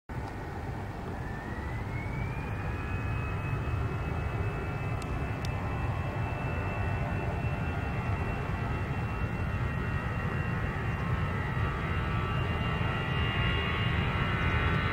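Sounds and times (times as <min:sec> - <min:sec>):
jet engines spooling up: 0:00.2 - 0:14.9.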